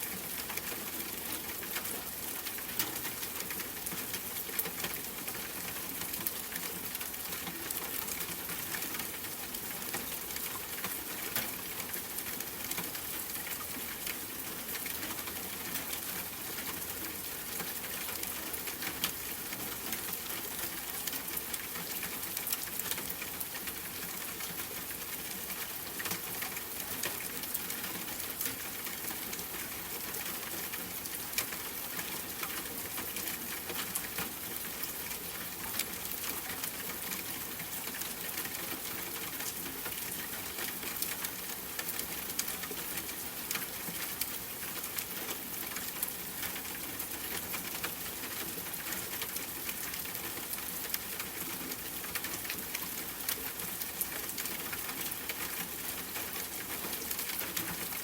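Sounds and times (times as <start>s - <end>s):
rain pattering on window: 0.0s - 58.0s.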